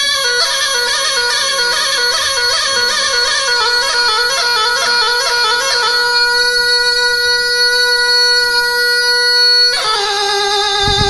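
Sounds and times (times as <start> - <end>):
bagpipe drone: 0.0 - 11.0
bagpipe melody: 0.0 - 11.0.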